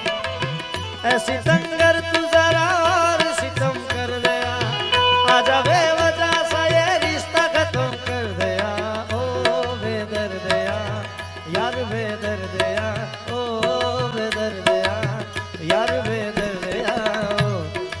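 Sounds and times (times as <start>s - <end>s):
light percussion: 0.0s - 18.0s.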